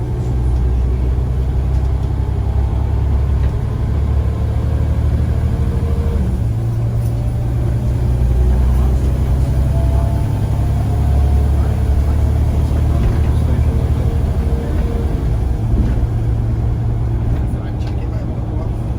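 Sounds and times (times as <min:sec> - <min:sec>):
bus engine droning: 0:00.0 - 0:18.9.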